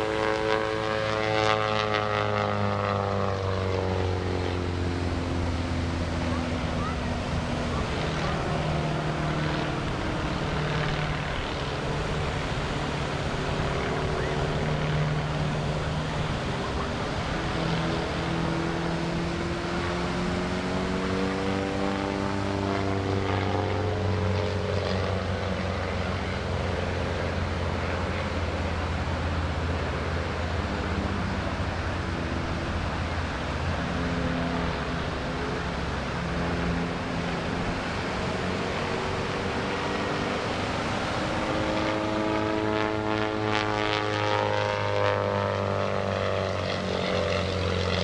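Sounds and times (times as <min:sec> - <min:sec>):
propeller plane engine drone: 0:00.0 - 0:48.0.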